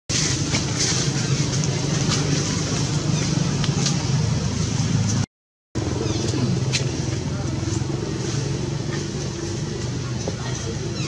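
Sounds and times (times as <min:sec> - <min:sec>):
outdoor background rumble: 0:00.1 - 0:11.0.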